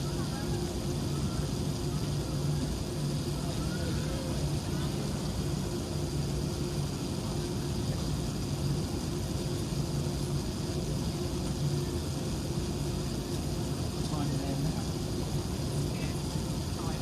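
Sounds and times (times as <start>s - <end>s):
cabin hiss: 0.0s - 17.0s
jet engines low hum: 0.0s - 17.0s.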